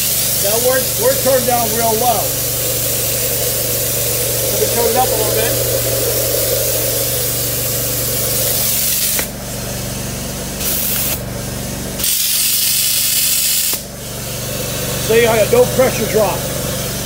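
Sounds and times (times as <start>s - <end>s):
hose water spraying on concrete: 0.0s - 11.2s, 12.0s - 14.8s
pump motor hum: 0.0s - 17.0s.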